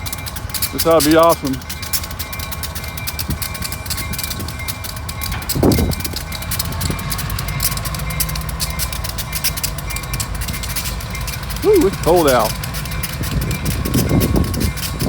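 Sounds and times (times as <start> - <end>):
diesel locomotives idling: 0.0 - 15.0.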